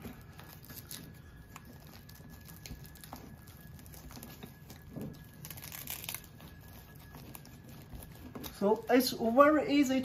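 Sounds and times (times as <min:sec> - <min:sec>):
velcro scratchy rustle: 0:00.0 - 0:09.4.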